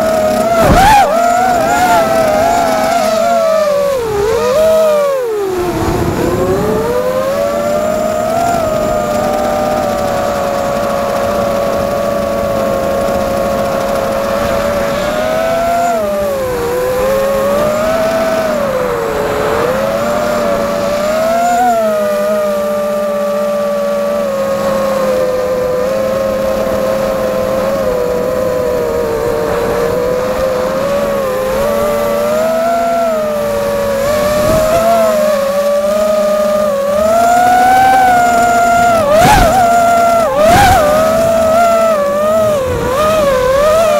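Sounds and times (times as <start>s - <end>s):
drone motors whining: 0.0s - 43.9s.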